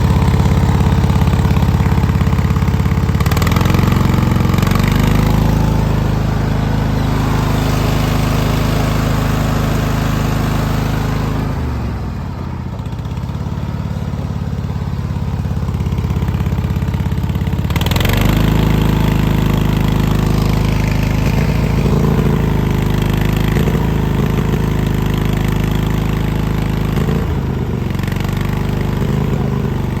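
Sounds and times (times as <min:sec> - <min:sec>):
lawn tractor engine misfiring: 0:00.0 - 0:30.0.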